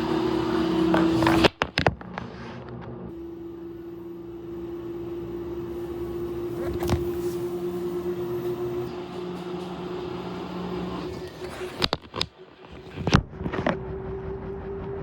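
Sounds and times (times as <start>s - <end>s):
washing machine motor hum: 0.0s - 1.5s, 3.0s - 12.6s, 13.4s - 15.0s.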